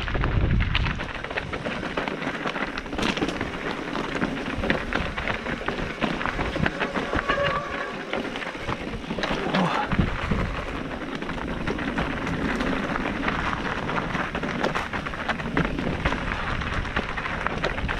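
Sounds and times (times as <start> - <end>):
bike rattling and knocking: 0.0 - 17.9
tyres crunching over gravel: 0.0 - 17.9.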